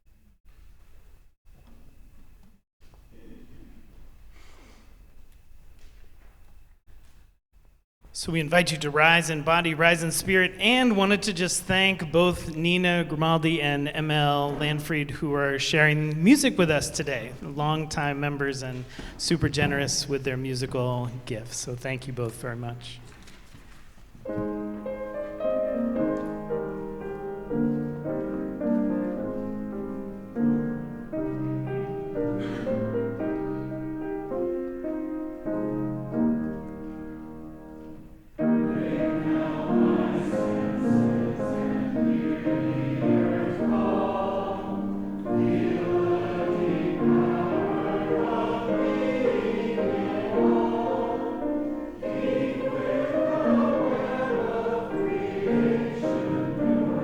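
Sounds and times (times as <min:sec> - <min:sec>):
congregation singing a hymn: 0:08.2 - 0:23.0, 0:24.4 - 0:37.2, 0:37.8 - 0:57.0.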